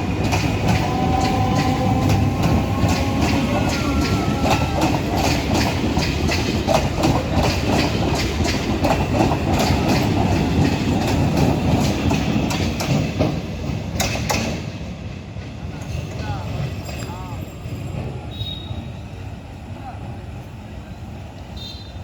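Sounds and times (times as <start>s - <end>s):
train wheels clicking over rail joints: 0.0s - 18.6s
train low rumble: 0.0s - 21.8s.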